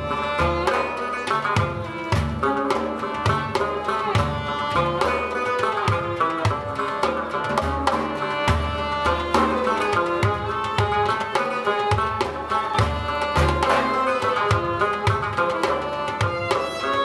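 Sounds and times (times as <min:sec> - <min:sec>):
bowed violin: 0:00.0 - 0:17.0
hand drums: 0:00.0 - 0:17.0
plucked string melody: 0:00.0 - 0:17.0.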